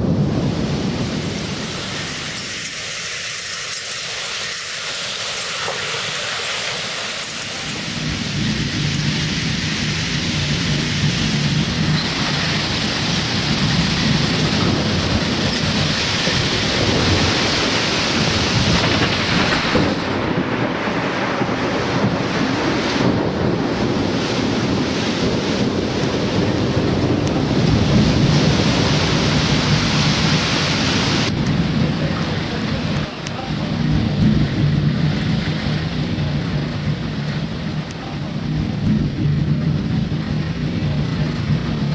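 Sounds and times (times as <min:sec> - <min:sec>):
deep rumble: 0:00.0 - 0:02.5, 0:07.5 - 0:41.9
storm wind: 0:00.0 - 0:41.9
torrential rain: 0:00.0 - 0:41.9.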